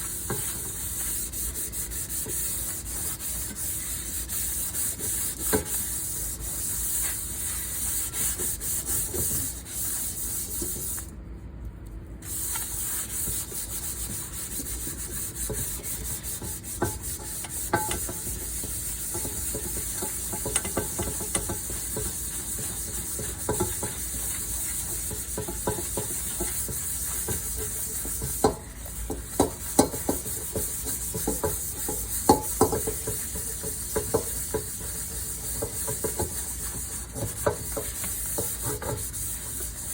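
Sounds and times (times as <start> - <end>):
scrubber scraping a pan: 0.0 - 10.9, 12.3 - 39.9.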